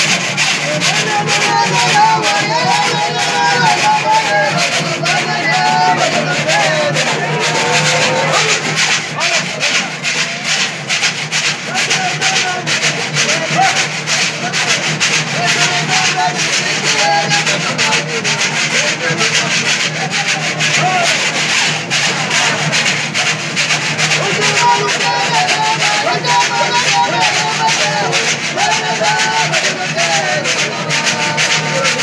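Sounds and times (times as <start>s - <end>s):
men singing: 0.0s - 9.9s, 11.7s - 32.0s
bamboo scraper scraped rhythmically: 0.0s - 32.0s.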